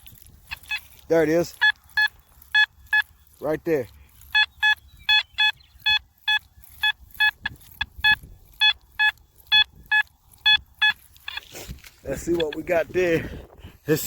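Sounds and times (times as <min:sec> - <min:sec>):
metal detector beeping: 0:00.0 - 0:13.1.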